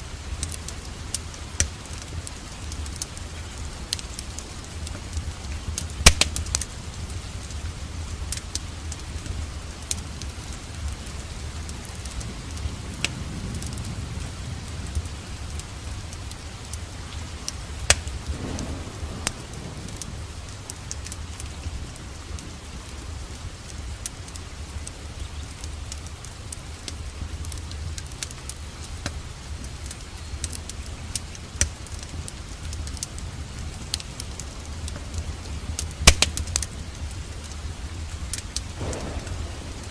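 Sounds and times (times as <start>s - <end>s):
rain falling: 0.0s - 39.9s
wood fire crackling: 0.0s - 39.9s.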